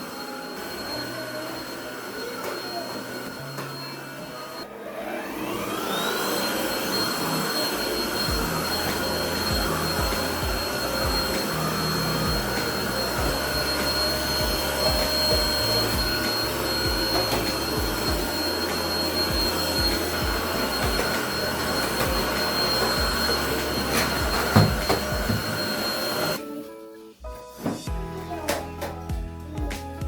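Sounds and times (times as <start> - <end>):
vacuum cleaner running: 0.0 - 26.4.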